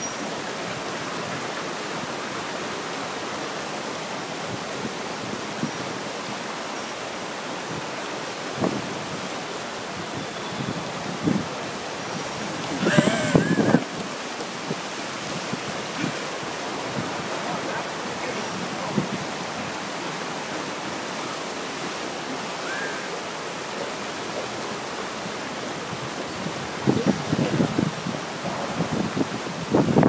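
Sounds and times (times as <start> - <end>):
river rushing over stones: 0.0 - 30.0.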